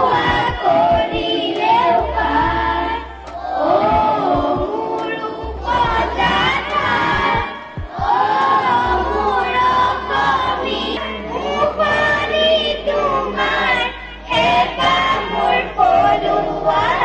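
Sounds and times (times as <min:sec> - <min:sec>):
group of women singing: 0:00.0 - 0:17.0.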